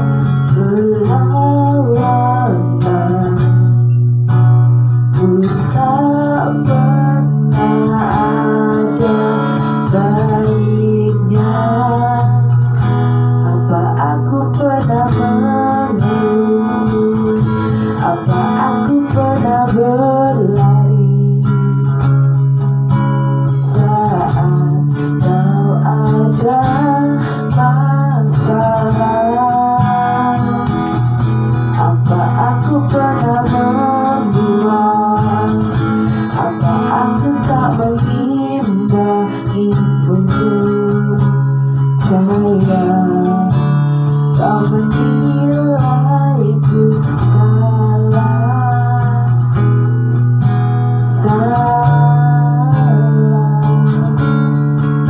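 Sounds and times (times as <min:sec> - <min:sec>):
guitar chords: 0:00.0 - 0:55.0
woman singing into a microphone: 0:00.0 - 0:55.0.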